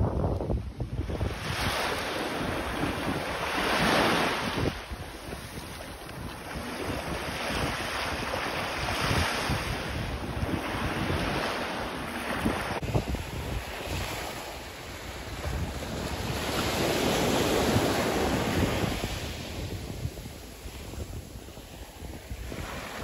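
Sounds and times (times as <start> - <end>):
wind buffeting microphone: 0.0 - 23.0
small waves washing onto beach: 0.3 - 23.0.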